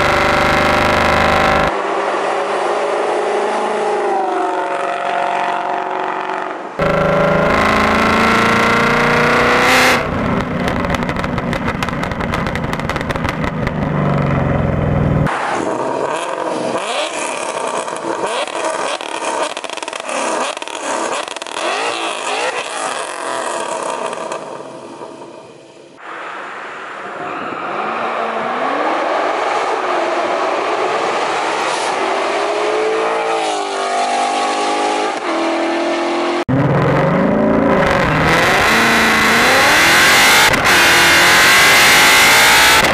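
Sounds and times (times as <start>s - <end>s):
car engine revving and accelerating: 0.0s - 4.6s, 6.0s - 14.6s, 15.2s - 24.3s, 27.8s - 42.9s.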